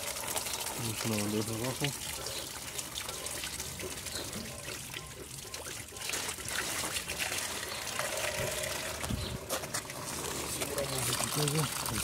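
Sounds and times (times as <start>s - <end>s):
coolant trickling and dripping: 0.0s - 12.0s.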